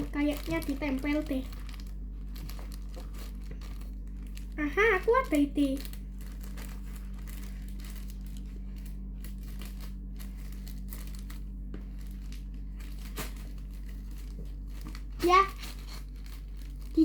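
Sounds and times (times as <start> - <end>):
faint crackles: 0.0 - 17.0
package wrapping crinkling: 0.0 - 17.0
steady low hum: 0.0 - 17.0.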